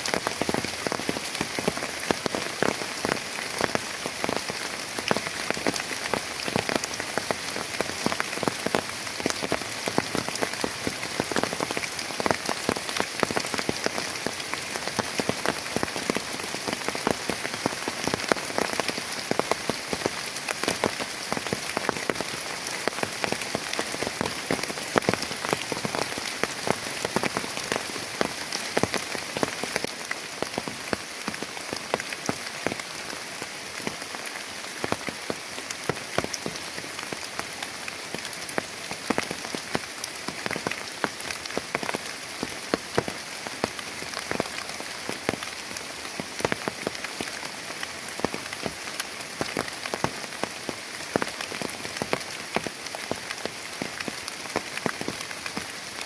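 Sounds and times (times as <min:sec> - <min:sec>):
heavy rain on hard surface: 0:00.0 - 0:56.0.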